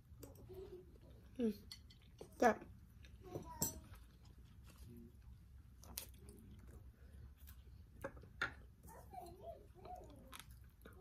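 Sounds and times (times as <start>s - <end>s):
person chewing food: 0.0s - 9.0s, 9.6s - 11.0s.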